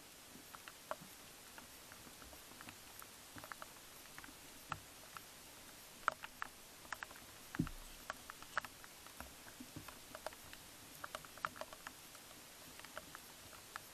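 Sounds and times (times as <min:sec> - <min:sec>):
steady hiss: 0:00.0 - 0:13.9.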